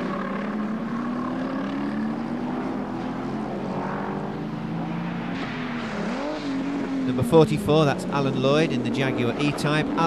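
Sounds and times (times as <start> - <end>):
racing car engine at high revs: 0.0 - 10.0.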